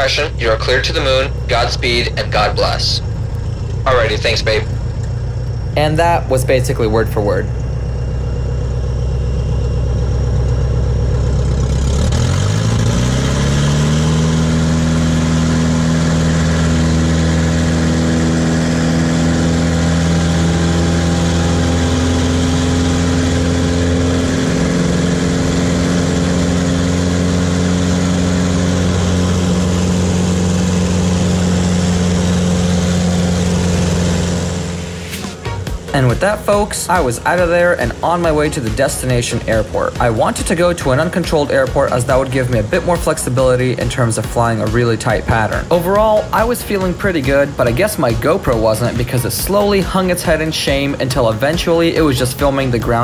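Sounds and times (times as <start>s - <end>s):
propeller plane engine revving: 0.0s - 53.0s.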